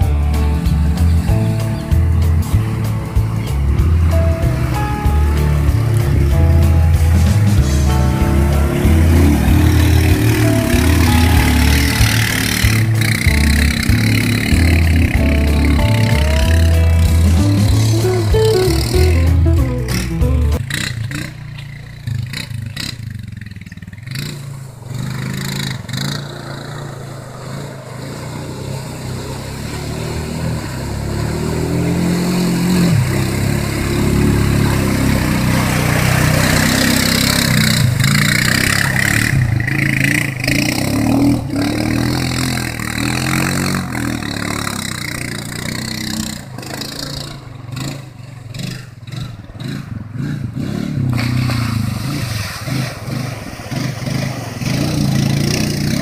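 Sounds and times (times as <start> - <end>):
quad engine revving: 0.0 - 56.0
water splashing around wheels: 0.0 - 56.0.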